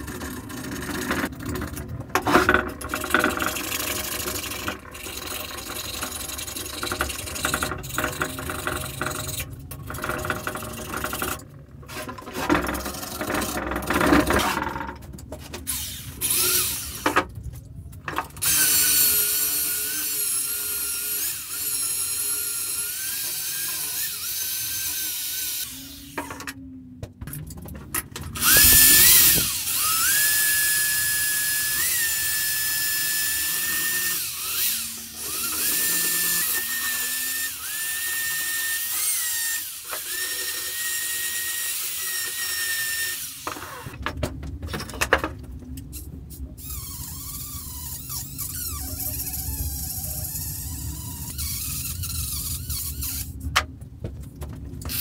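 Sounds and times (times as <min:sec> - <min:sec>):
drill with wire brush scrubbing metal: 0:00.0 - 0:14.9, 0:15.6 - 0:17.2, 0:18.4 - 0:26.5, 0:28.4 - 0:44.0, 0:46.6 - 0:53.4.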